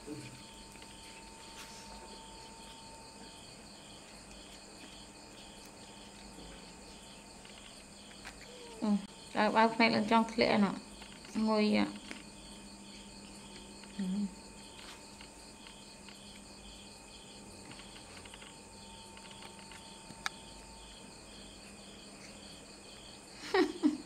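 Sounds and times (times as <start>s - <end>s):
crickets chirping: 0.0s - 24.0s
faint steady hum: 0.0s - 24.0s.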